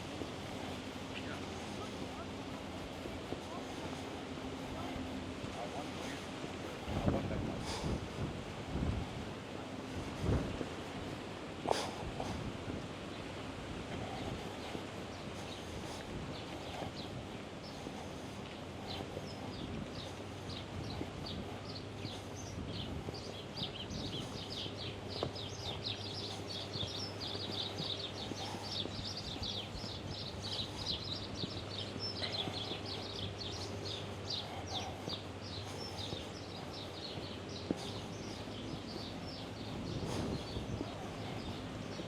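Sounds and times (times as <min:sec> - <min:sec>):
low city hum: 0:00.0 - 0:42.0
small birds chirping: 0:00.0 - 0:42.0.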